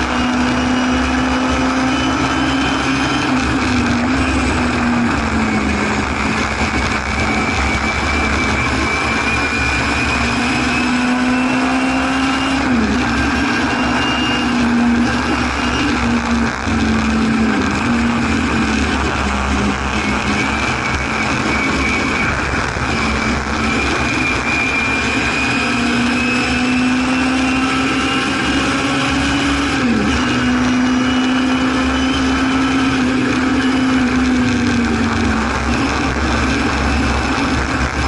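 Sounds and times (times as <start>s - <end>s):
race car engine running hard: 0.0s - 38.0s
wind and road noise: 0.0s - 38.0s.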